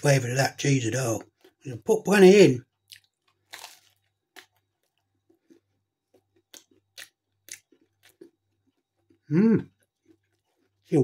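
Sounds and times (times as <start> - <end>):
person chewing pizza: 1.0 - 1.8, 2.6 - 11.0.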